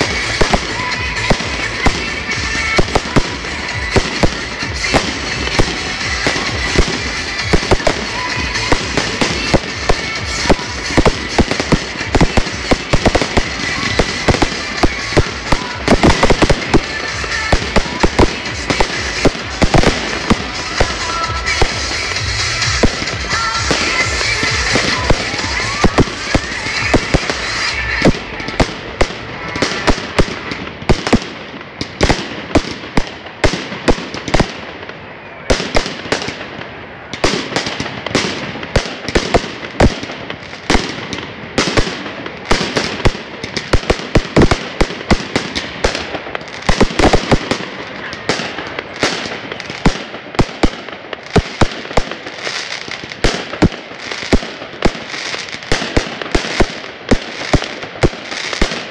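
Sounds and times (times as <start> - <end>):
fireworks bangs: 0.0 - 58.9.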